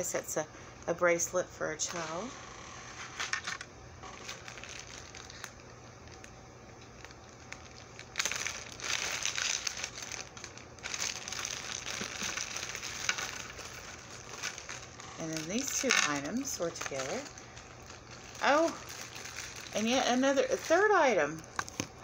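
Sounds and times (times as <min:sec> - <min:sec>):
packaging wrap crinkling: 0:01.9 - 0:22.0.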